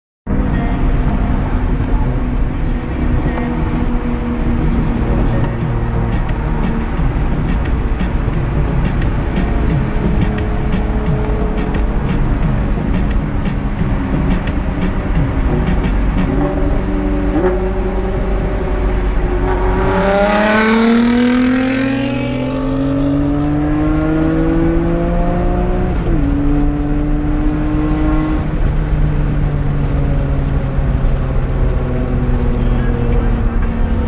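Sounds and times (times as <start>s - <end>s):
car engine accelerating hard: 0.3s - 34.0s.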